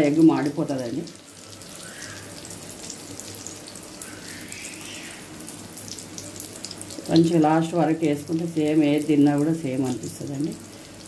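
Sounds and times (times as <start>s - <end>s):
oil sizzling and crackling: 0.0s - 11.0s.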